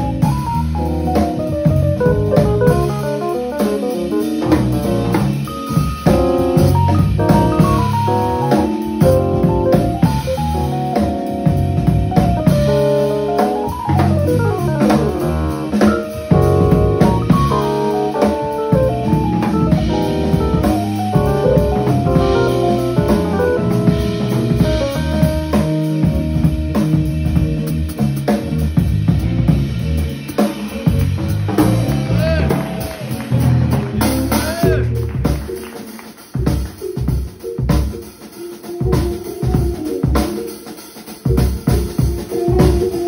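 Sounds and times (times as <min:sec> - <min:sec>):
guitar: 0:00.0 - 0:40.5
drum kit: 0:00.0 - 0:43.0.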